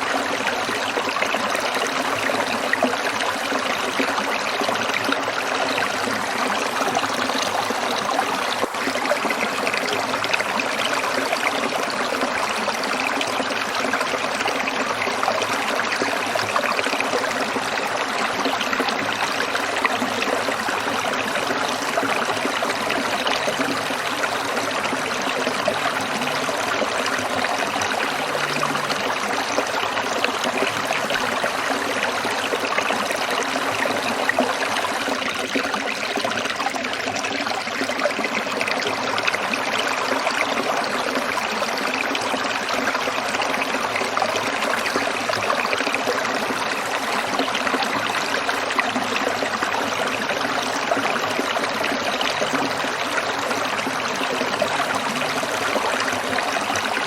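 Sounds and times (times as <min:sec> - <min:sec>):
stream water trickling over stones: 0:00.0 - 0:57.0.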